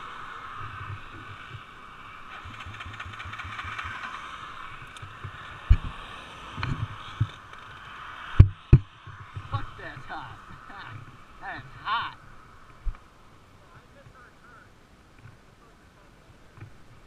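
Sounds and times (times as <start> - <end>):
quad engine throbbing: 0.0 - 14.6.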